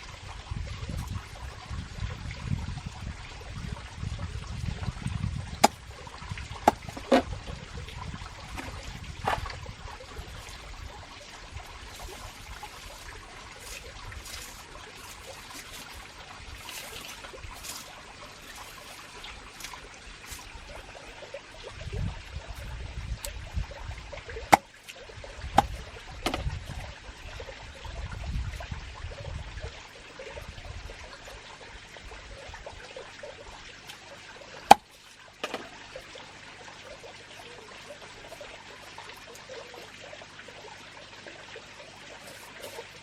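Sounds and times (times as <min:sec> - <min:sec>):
water trickling: 0:00.0 - 0:43.0.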